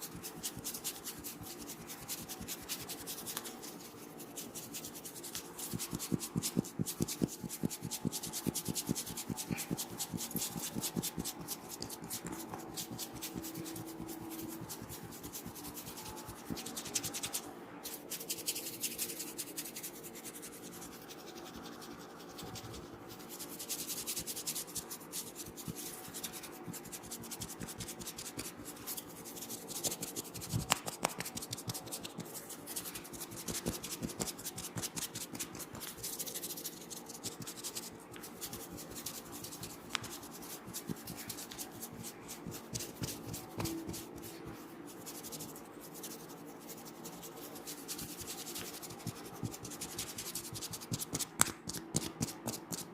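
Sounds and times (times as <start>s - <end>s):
fingers scratching through hair: 0.0s - 52.9s.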